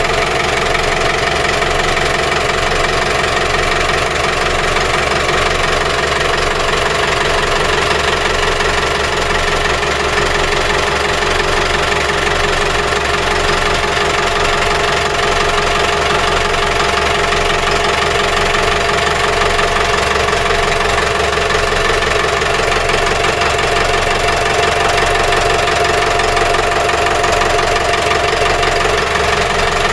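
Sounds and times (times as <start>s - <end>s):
boat engine idling: 0.0s - 29.9s.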